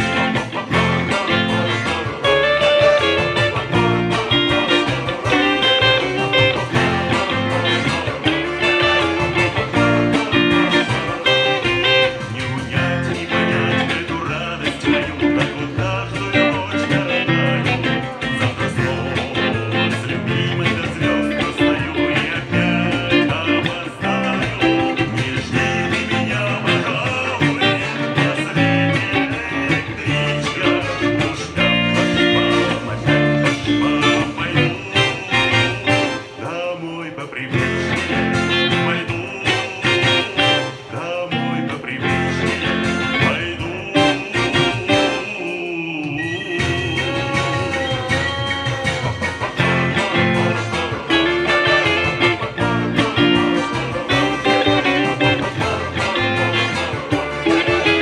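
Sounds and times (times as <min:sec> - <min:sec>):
electric guitar picked: 0:00.0 - 0:58.0.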